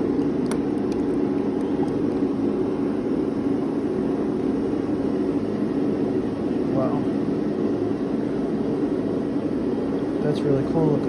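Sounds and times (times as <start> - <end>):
workshop equipment roaring: 0.0 - 11.0.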